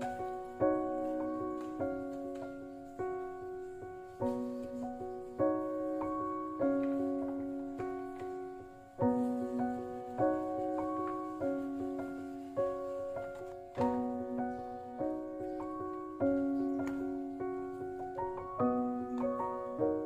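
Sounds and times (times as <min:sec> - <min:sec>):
slow gentle piano piece: 0:00.0 - 0:20.0.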